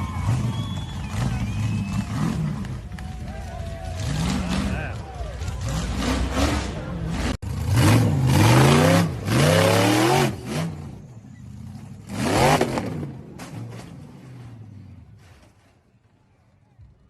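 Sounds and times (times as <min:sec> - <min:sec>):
off-road vehicle engine revving: 0:00.0 - 0:15.3.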